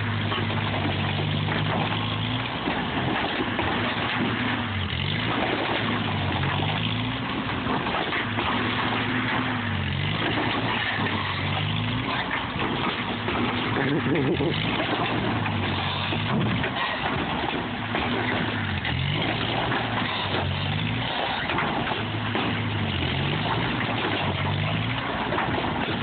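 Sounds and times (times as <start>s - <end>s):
tractor engine revving under load: 0.0s - 26.0s.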